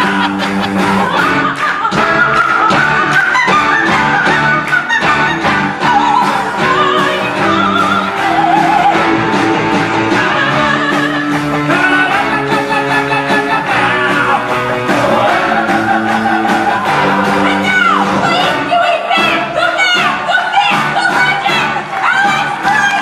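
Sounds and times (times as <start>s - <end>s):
rock song with singer: 0.0s - 23.0s.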